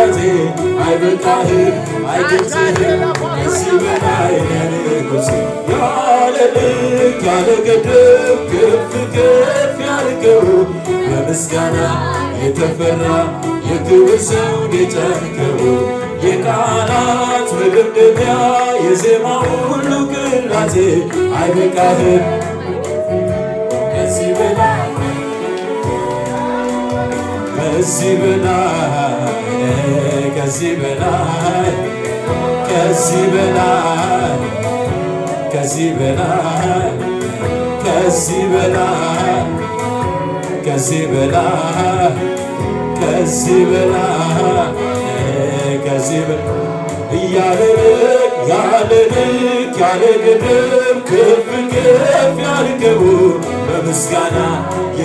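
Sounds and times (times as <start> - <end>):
instrumental accompaniment: 0.0 - 55.0
man singing into a microphone: 0.0 - 55.0.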